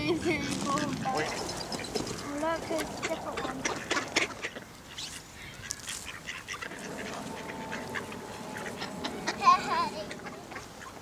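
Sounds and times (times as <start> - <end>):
ducks quacking: 0.1 - 11.0.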